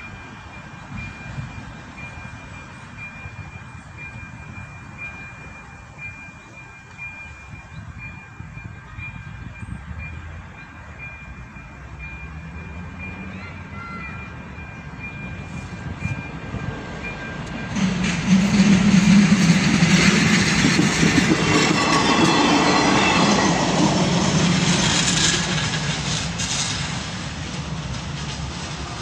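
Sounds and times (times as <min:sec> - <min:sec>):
level crossing warning bell: 0:00.0 - 0:25.6
railcar wheels clattering on rails: 0:00.0 - 0:29.0.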